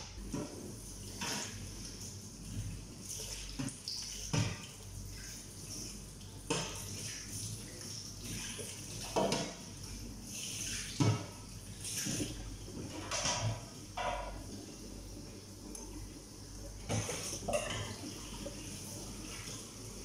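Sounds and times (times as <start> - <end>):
water running into sink: 0.2 - 20.0.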